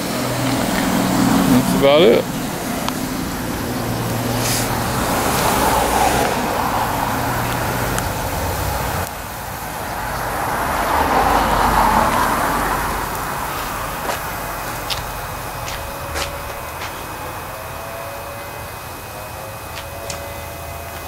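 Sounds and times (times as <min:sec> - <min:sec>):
low hum: 0:00.0 - 0:21.0
steam engine running: 0:00.0 - 0:21.0
steam hissing: 0:00.0 - 0:21.0.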